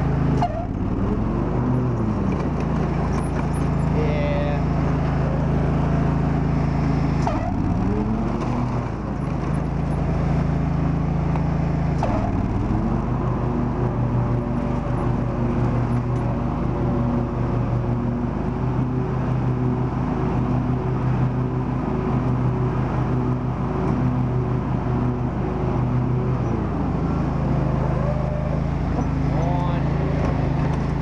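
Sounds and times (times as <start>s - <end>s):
lawn tractor engine running: 0.0s - 31.0s.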